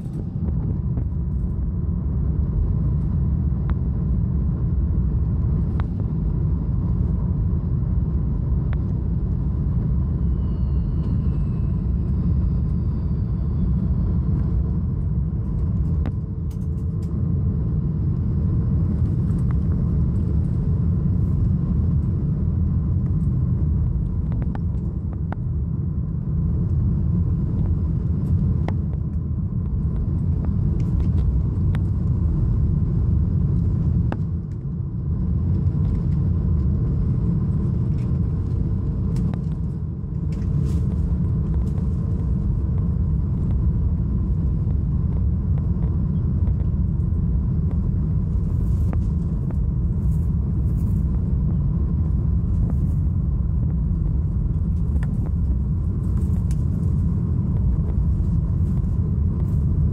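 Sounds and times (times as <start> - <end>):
airplane cabin rumble: 0.0 - 59.9
faint steady hum: 0.0 - 59.9.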